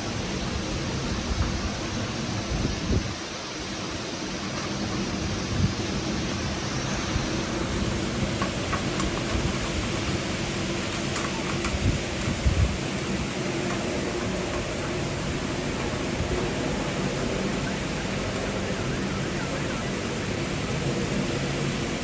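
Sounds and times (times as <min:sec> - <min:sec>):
heavy rain: 0:00.0 - 0:22.0
strong gusty wind: 0:00.0 - 0:22.0.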